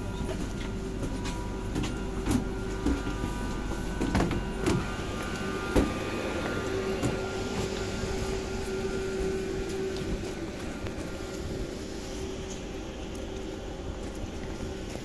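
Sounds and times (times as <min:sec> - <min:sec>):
electric train humming: 0:00.0 - 0:15.0
footsteps: 0:00.2 - 0:15.0.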